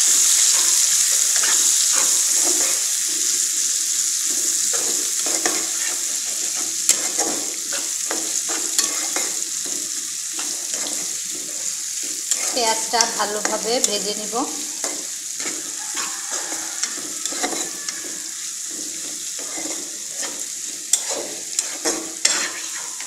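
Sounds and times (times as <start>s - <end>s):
onions sizzling in hot oil: 0.0s - 23.0s
metal spatula scraping pan: 0.2s - 3.2s, 4.3s - 23.0s.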